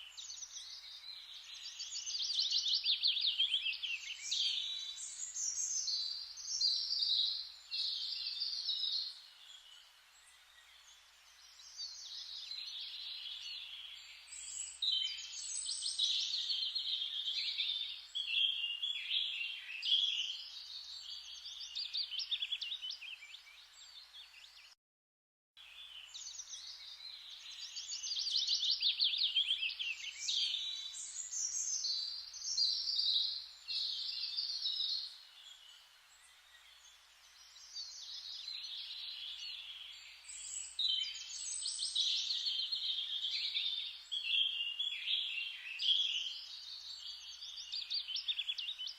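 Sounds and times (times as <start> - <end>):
birds chirping and singing: 0.0 - 24.7, 25.8 - 48.9.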